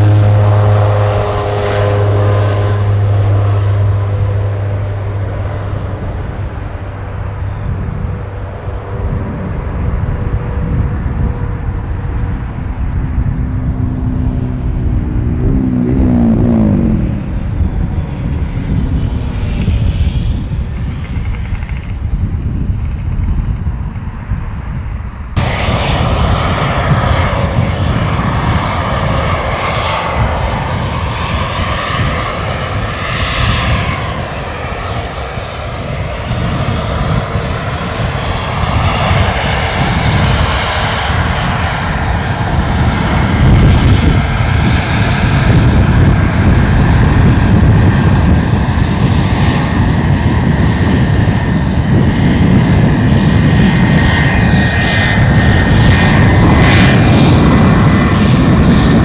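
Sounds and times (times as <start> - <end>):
aircraft engines roaring: 0.0 - 59.0
high engine whine: 0.0 - 59.0.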